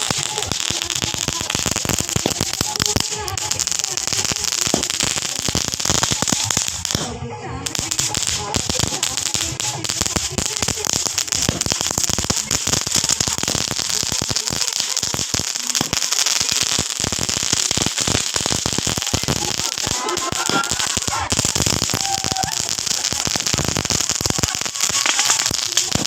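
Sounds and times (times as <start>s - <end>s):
firecrackers crackling: 0.0s - 26.0s.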